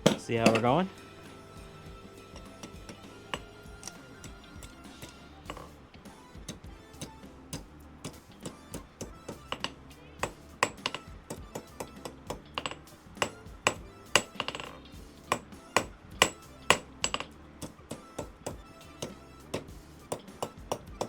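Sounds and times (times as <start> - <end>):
hammer tapping steel on anvil: 0.0 - 1.0, 1.6 - 5.8, 6.4 - 21.0.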